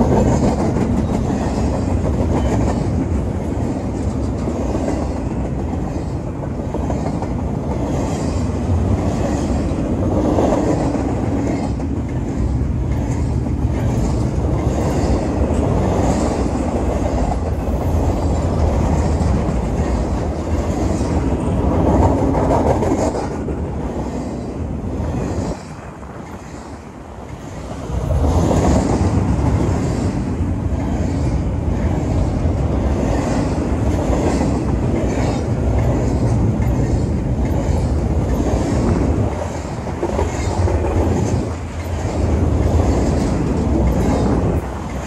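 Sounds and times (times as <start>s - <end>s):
rhythmic clickety-clack: 0.0s - 24.5s, 28.1s - 45.0s
train wheels rumbling on rail: 0.0s - 45.0s.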